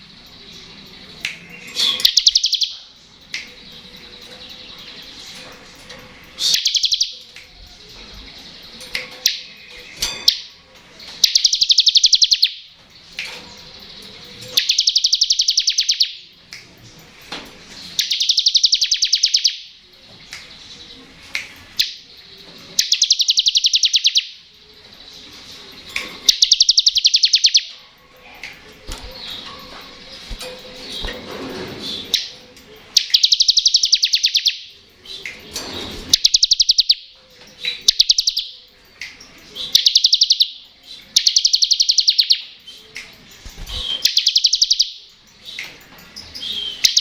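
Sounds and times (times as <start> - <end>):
soft bird chips: 0.0 - 47.0.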